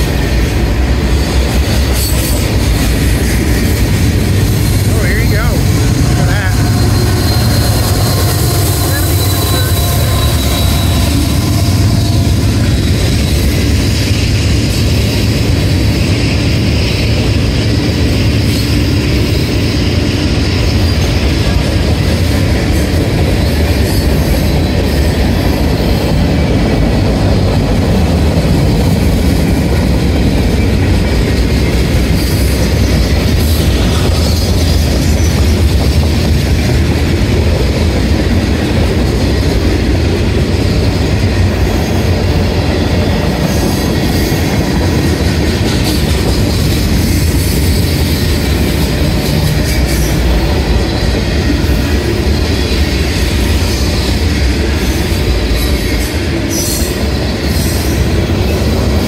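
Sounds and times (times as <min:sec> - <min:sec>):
locomotive passing: 0:00.0 - 0:59.0
train wheels on rails: 0:00.0 - 0:59.0.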